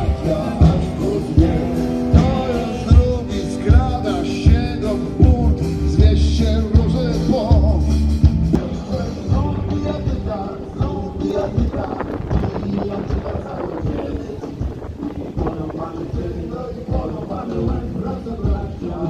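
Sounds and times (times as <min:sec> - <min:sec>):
rock and roll song with singer: 0:00.0 - 0:19.0.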